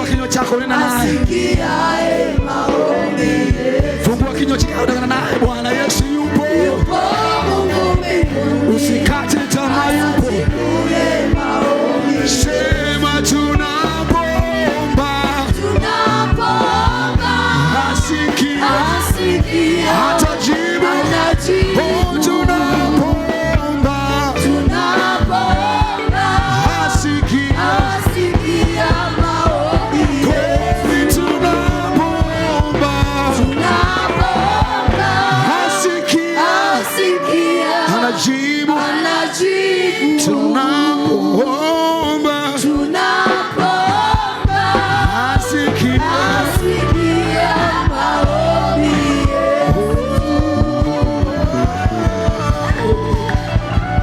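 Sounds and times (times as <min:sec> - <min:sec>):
band playing: 0:00.0 - 0:40.0, 0:42.1 - 0:54.0
voices singing gospel: 0:00.0 - 0:54.0.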